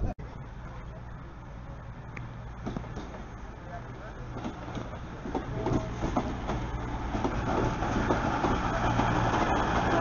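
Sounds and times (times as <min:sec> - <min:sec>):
train rumble and hum: 0:00.0 - 0:10.0.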